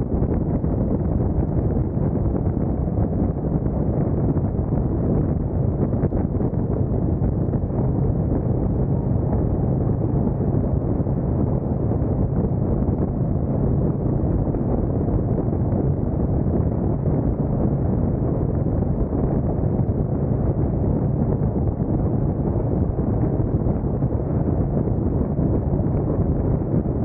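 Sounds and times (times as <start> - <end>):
wind noise on microphone: 0.0 - 27.0.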